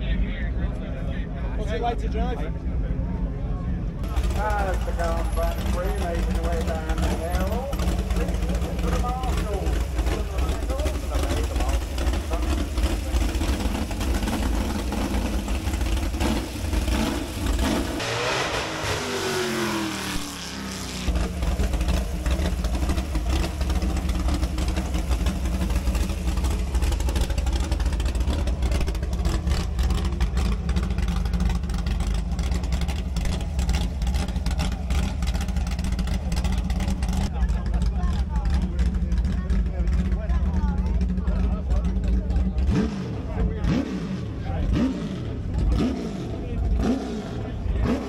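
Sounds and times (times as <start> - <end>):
racing car engine revving and idling: 0.0 - 48.0.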